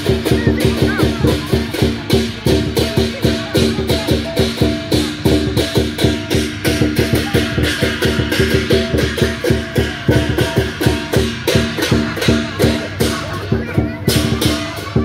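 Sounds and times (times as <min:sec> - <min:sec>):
cymbals clashing: 0:00.0 - 0:15.0
drum beating fast rhythm: 0:00.0 - 0:15.0.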